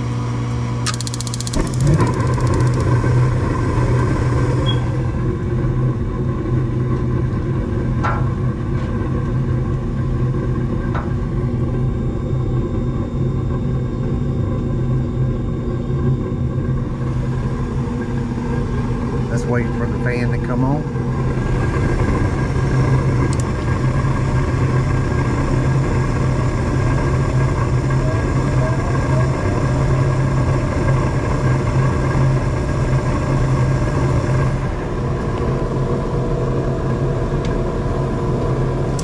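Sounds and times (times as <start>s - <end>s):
gas furnace humming: 0.0s - 39.0s.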